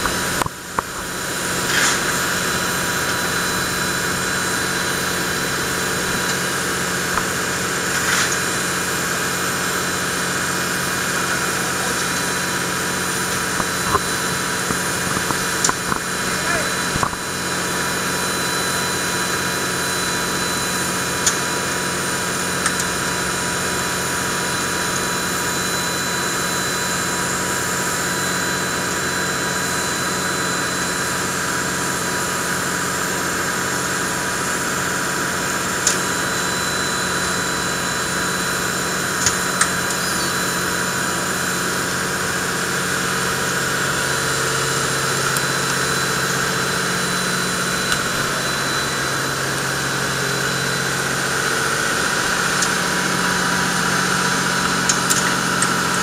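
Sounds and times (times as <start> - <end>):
hum and whine: 0.0 - 56.0.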